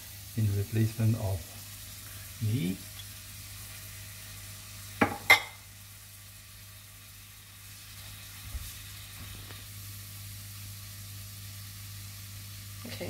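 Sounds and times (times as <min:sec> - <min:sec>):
food sizzling in frying pan: 0:00.0 - 0:13.0.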